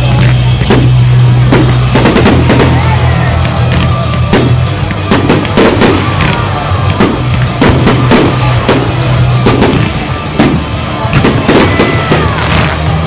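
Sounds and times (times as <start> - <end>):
fireworks bangs and crackles: 0.0 - 13.0
music with drum beat: 0.1 - 13.0.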